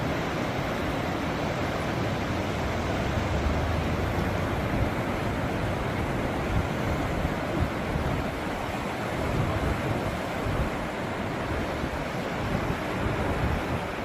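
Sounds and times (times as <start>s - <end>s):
steady rushing noise: 0.0s - 14.0s
wind buffeting microphone: 1.0s - 14.0s.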